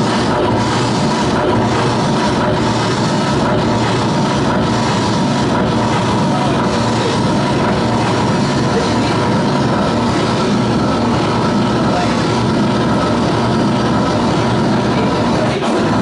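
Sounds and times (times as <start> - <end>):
droning tones: 0.0 - 16.0
harsh distorted noise music: 0.0 - 16.0.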